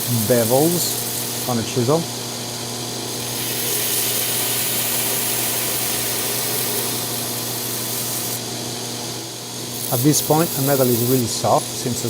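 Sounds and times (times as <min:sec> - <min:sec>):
belt grinder grinding steel: 0:00.0 - 0:02.0, 0:03.0 - 0:12.0.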